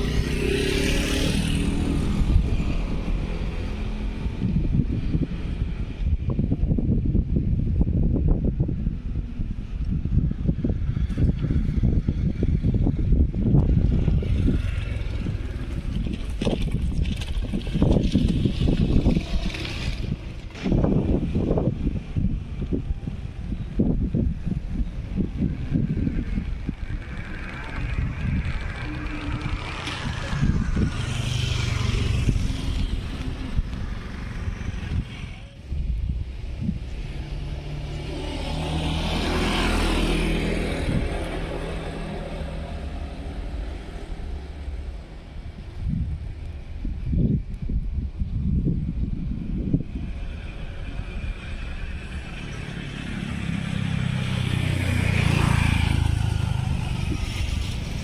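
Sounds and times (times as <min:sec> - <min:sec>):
traffic engine drone: 0:00.0 - 0:58.0
wind buffeting microphone: 0:00.0 - 0:58.0.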